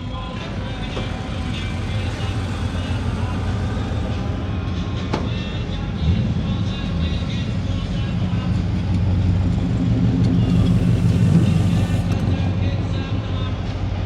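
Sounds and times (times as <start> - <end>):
car engine driving off: 0.0 - 13.5.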